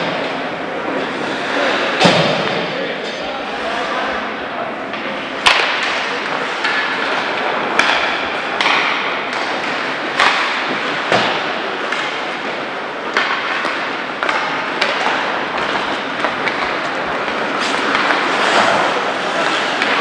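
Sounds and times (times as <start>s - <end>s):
puck hitting boards: 0.0s - 2.7s, 4.9s - 20.0s
hockey sticks hitting puck: 0.0s - 20.0s
rink background noise: 0.0s - 20.0s.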